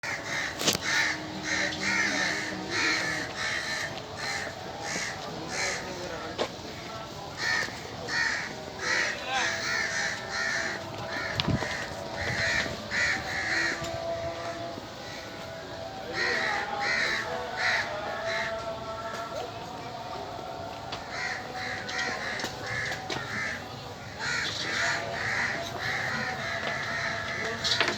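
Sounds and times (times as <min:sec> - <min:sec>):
birds calling: 0:00.0 - 0:18.7, 0:20.9 - 0:27.9.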